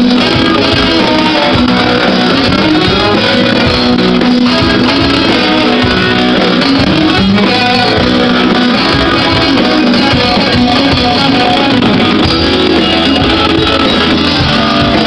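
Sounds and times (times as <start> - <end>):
drums: 0.0 - 15.0
electric bass: 0.0 - 15.0
electric guitars: 0.0 - 15.0.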